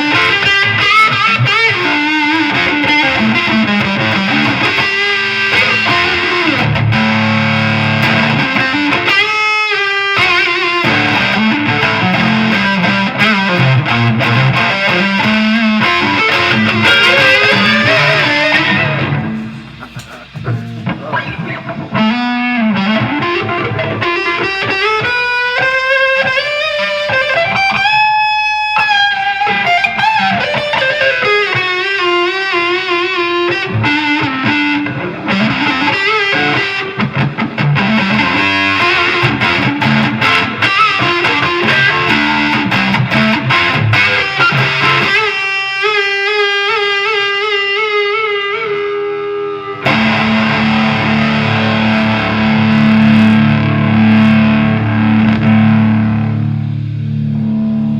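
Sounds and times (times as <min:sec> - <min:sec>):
electric guitar lead line: 0:00.0 - 0:57.9.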